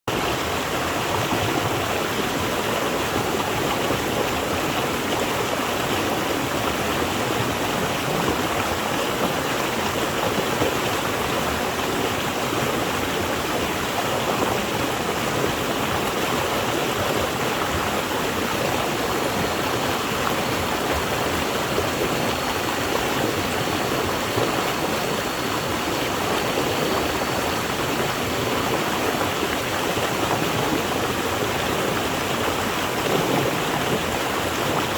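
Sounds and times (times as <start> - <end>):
water rushing and gurgling: 0.1 - 34.9.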